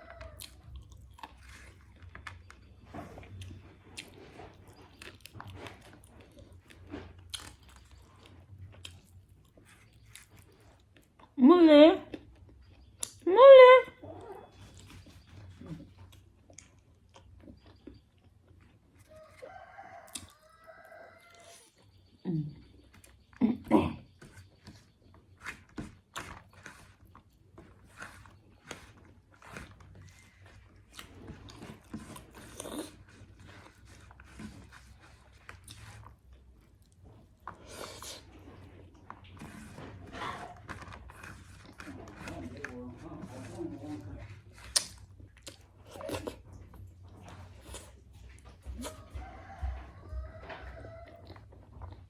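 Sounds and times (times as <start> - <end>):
close-up chewing: 0.0 - 11.4, 12.0 - 13.3, 14.0 - 52.0.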